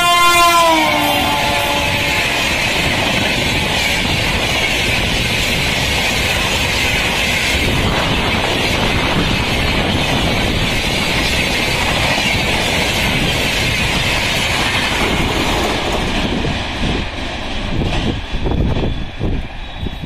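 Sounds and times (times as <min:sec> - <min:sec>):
train passing at high speed: 0:00.0 - 0:20.0
wheels clickety-clack on rails: 0:00.0 - 0:20.0.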